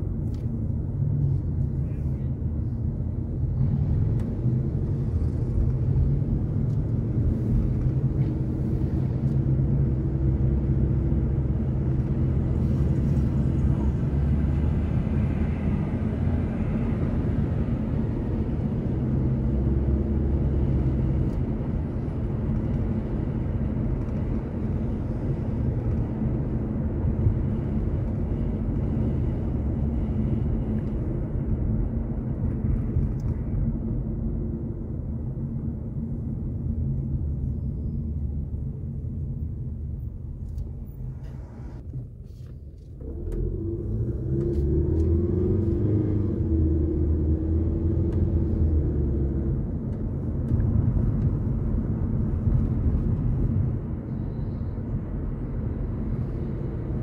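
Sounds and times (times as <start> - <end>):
car engine rumble: 0.0 - 57.0
tyres on the road: 0.0 - 57.0.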